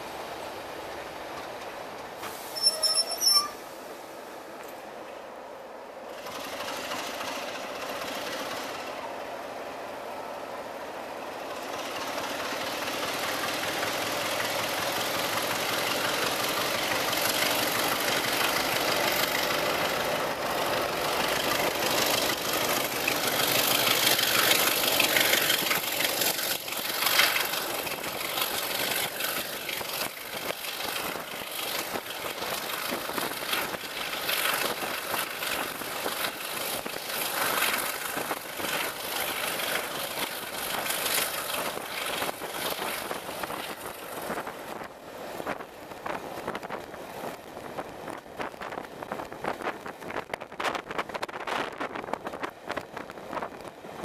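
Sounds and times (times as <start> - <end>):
diesel locomotive engine: 0.0 - 54.0
train wheels on rails: 0.0 - 54.0.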